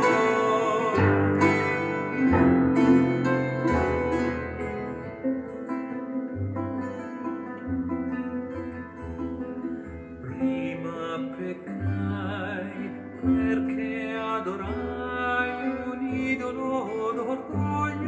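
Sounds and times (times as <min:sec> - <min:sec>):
plucked string and keyboard music: 0:00.0 - 0:18.0.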